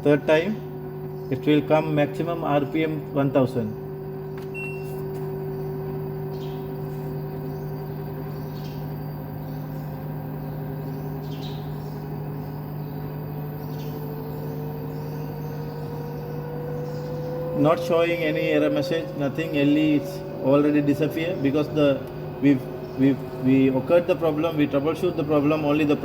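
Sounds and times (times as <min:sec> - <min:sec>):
drain pump hum: 0:00.0 - 0:26.0.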